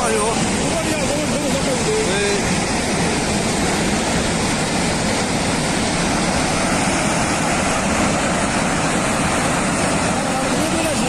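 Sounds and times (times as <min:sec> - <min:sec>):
roar of rushing floodwater: 0:00.0 - 0:11.0.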